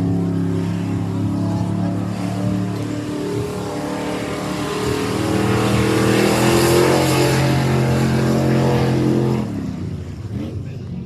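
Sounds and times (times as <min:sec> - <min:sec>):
truck engine revving: 0:00.0 - 0:10.8.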